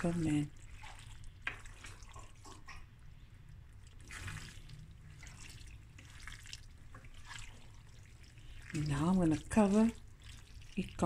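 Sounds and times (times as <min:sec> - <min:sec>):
spoon stirring pasta in sauce: 0:00.1 - 0:11.0.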